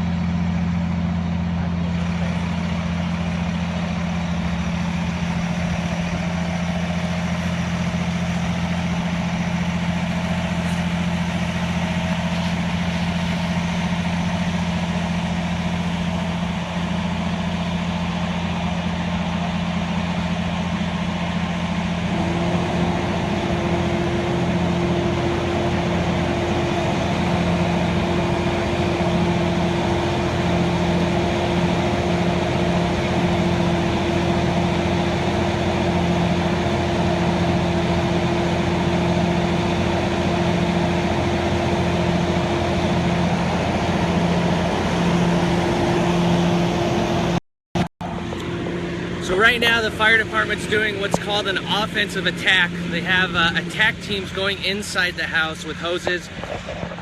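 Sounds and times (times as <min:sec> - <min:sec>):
fire engine low hum: 0:00.0 - 0:57.0.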